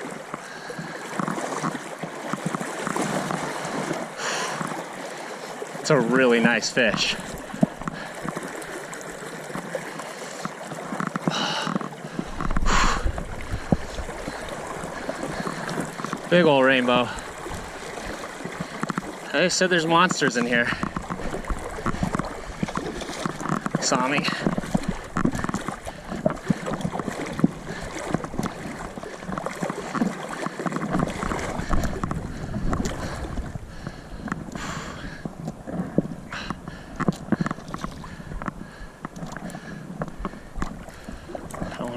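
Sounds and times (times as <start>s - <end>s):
river water flowing: 0.0s - 41.9s
water splashes: 0.0s - 41.9s.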